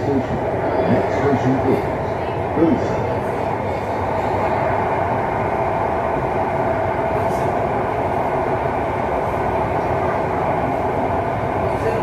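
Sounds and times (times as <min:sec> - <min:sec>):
metro train running rumble: 0:00.0 - 0:12.0.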